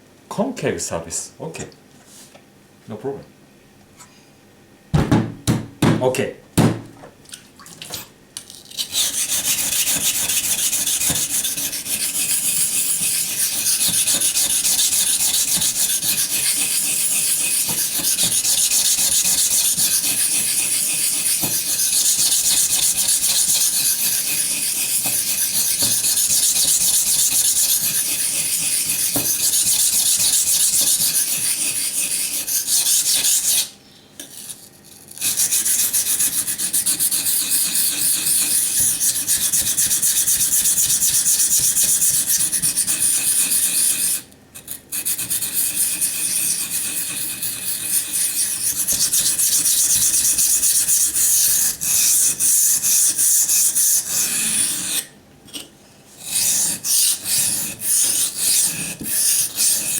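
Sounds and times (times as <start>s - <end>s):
knife scraping on sharpening stone: 8.6s - 59.9s.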